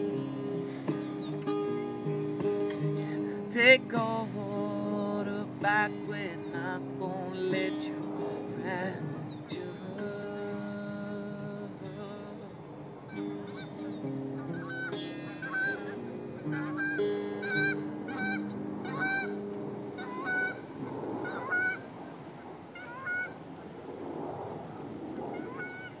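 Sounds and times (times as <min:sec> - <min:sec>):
acoustic guitar ringing: 0:00.0 - 0:23.4
birds calling: 0:00.0 - 0:26.0.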